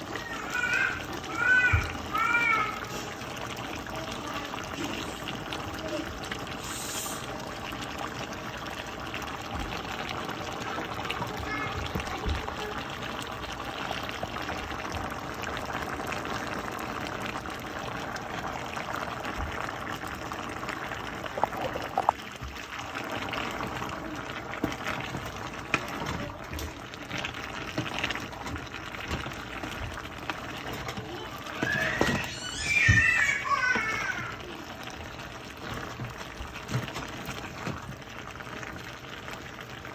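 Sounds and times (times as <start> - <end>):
pot boiling and bubbling: 0.0 - 39.9.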